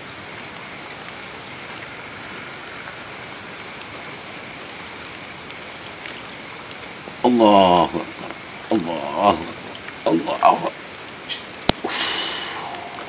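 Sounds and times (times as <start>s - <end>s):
crickets trilling: 0.0s - 13.0s
pulsing insect chirp: 0.0s - 13.0s
steady hiss: 0.0s - 13.0s.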